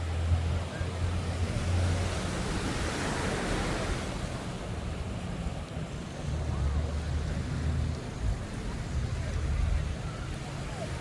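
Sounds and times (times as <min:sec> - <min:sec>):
low engine or traffic rumble: 0:00.0 - 0:11.0
surf washing onto beach: 0:00.0 - 0:11.0.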